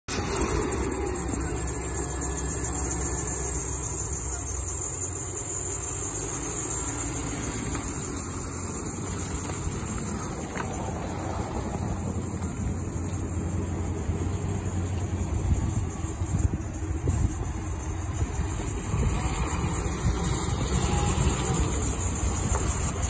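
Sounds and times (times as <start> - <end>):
pickup engine idling: 0.1 - 23.0.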